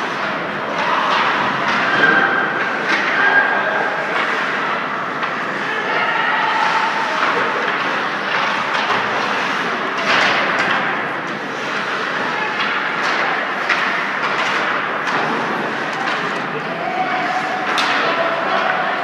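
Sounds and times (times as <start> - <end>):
skates scraping on ice: 0.0 - 19.0.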